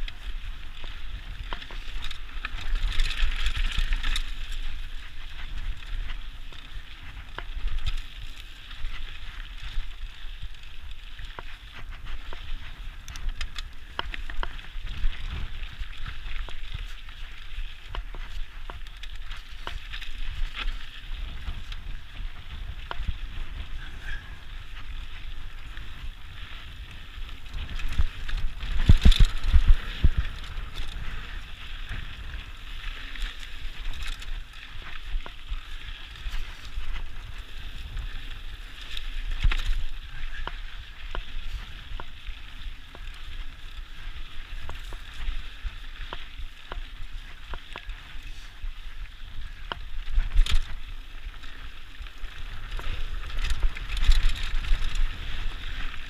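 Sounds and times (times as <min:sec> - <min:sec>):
bike rattling and clicking: 0:00.0 - 0:56.0
mountain bike tyres on dirt: 0:00.0 - 0:56.0
wind on microphone: 0:00.0 - 0:56.0.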